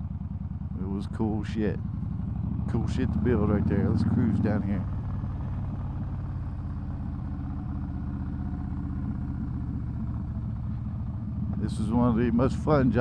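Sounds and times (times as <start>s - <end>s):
vehicle engine cruising: 0.0s - 13.0s.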